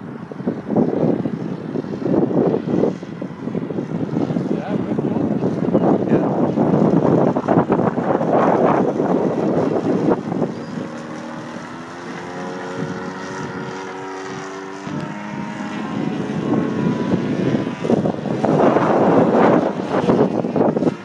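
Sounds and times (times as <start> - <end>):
model plane propeller drone: 0.0 - 21.0
wind buffeting microphone: 0.0 - 21.0.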